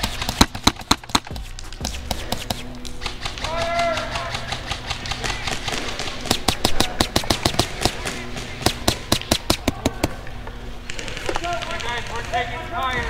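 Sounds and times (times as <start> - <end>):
airsoft gunfire bursts: 0.0 - 10.2, 10.9 - 12.6.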